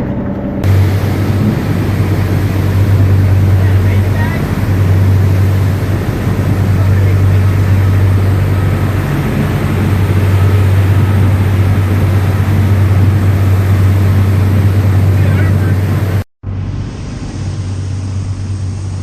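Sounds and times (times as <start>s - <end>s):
boat engines droning: 0.0s - 19.0s
wind and water rushing: 0.0s - 19.0s.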